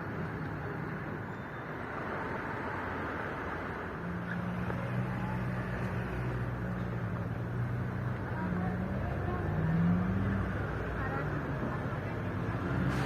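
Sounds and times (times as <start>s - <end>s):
motor traffic rumble: 0.0s - 13.0s
vehicle engine humming: 0.0s - 13.0s.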